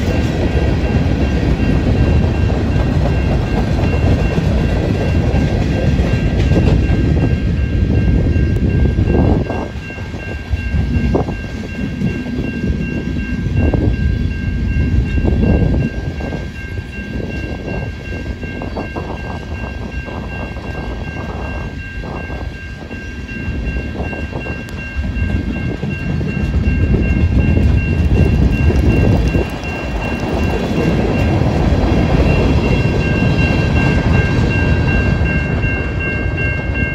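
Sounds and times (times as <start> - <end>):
crossing bell ringing: 0.0 - 36.9
freight cars rumbling and clanking: 0.0 - 36.9.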